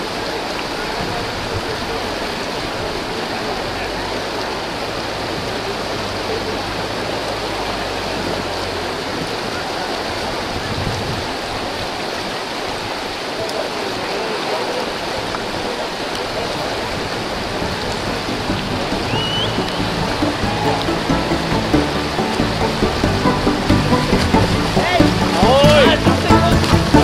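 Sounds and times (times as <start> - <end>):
river water rushing over rapids: 0.0 - 27.0.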